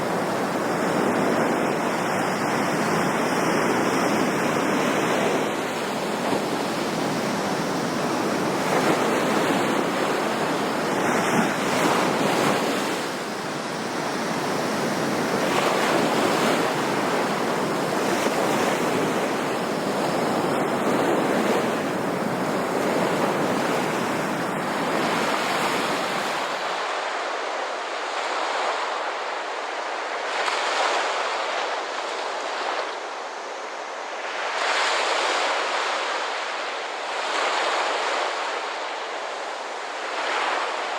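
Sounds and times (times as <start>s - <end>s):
ocean surf washing in: 0.0s - 40.9s.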